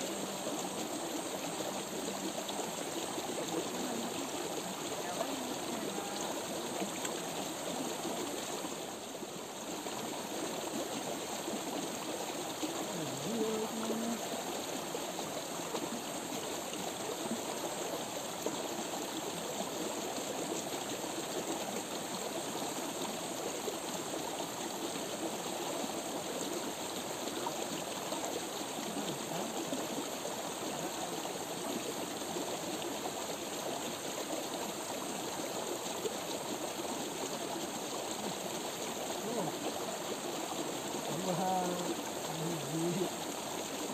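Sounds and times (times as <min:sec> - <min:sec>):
stream water running: 0:00.0 - 0:43.9.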